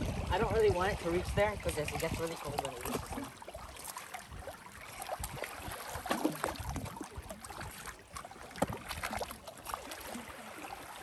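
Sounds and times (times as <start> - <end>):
feet splashing in water: 0.0 - 11.0
water lapping against rock: 0.0 - 11.0.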